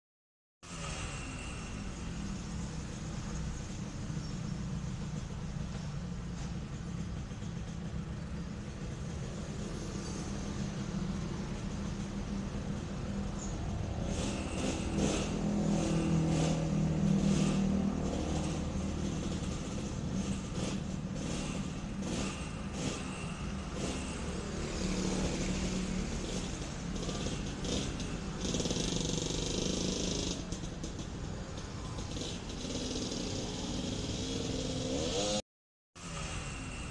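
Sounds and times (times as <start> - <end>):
two-stroke motorcycle engine running: 4.4 - 35.4.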